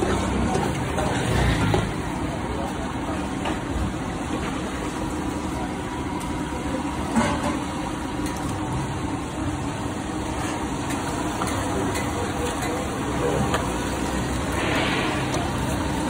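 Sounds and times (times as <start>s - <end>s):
gas burner roaring: 0.0s - 16.0s.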